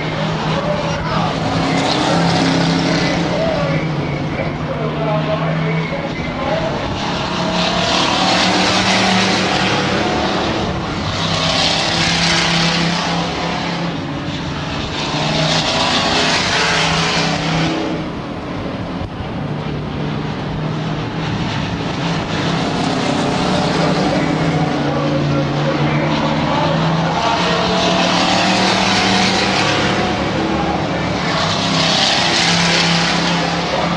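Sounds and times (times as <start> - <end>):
racing truck engines passing: 0.0 - 33.9.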